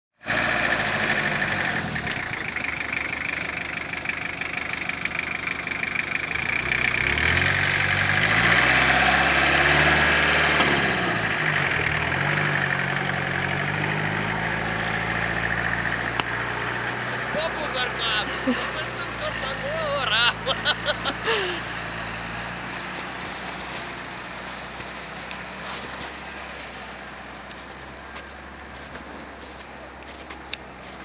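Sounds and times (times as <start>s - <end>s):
vehicle engine revving: 0.2s - 3.2s, 5.9s - 29.6s.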